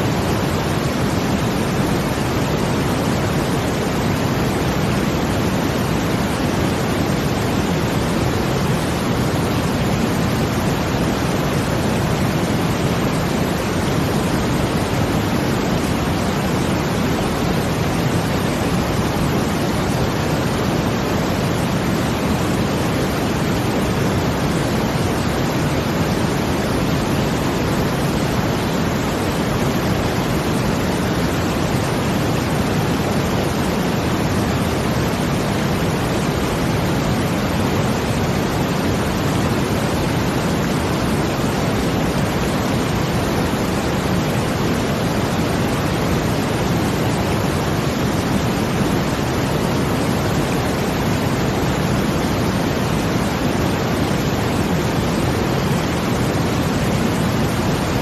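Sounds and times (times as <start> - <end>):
brown noise: 0.0 - 58.0
water: 0.0 - 58.0.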